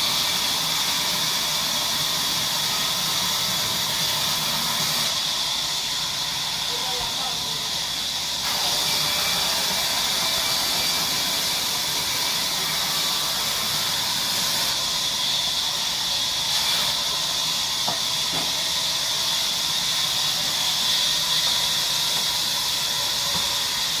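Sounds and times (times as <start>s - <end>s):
band saw cutting timber: 0.0s - 24.0s.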